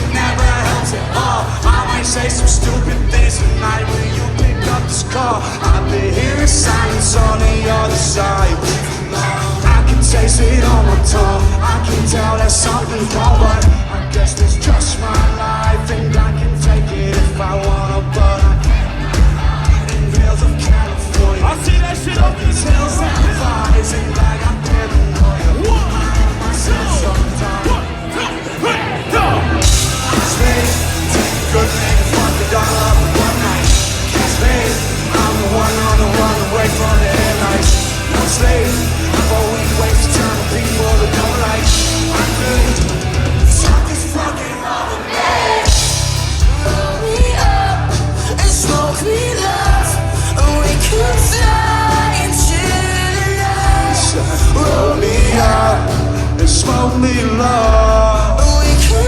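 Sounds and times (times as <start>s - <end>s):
person singing: 0.0s - 59.0s
rock band playing loudly: 0.0s - 59.0s.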